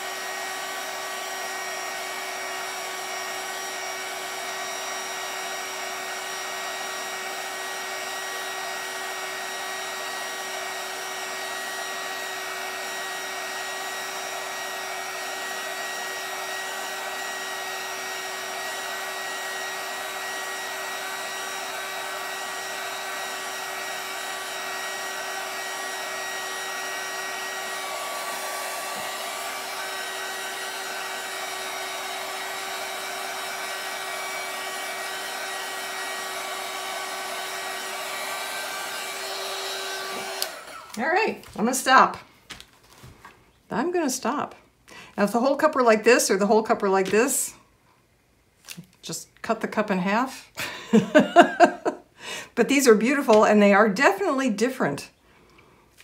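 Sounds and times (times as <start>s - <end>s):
heat gun blowing air: 0.0s - 42.2s, 50.6s - 53.5s.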